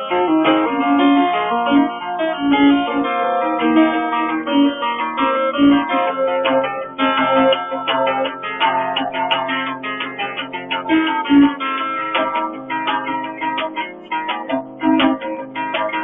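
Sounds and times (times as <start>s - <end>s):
acoustic guitar folk tune: 0.0s - 16.0s.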